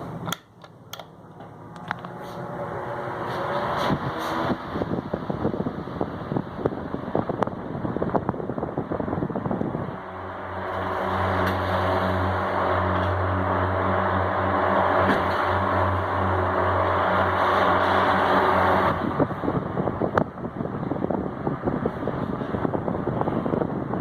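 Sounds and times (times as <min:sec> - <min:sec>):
electric fan running: 0:00.0 - 0:24.0.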